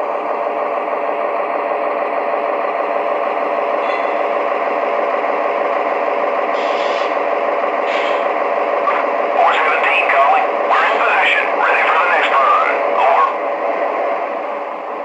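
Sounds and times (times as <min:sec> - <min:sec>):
model diesel engine sound: 0:00.0 - 0:15.0.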